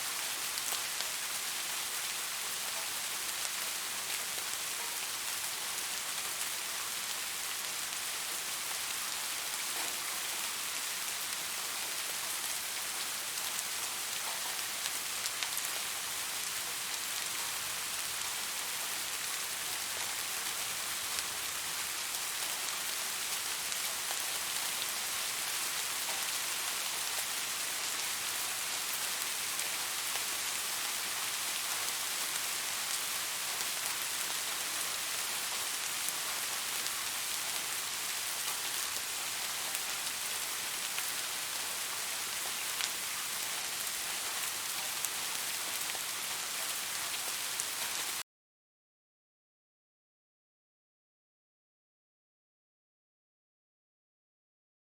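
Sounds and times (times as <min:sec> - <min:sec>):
steady rain falling: 0:00.0 - 0:48.2.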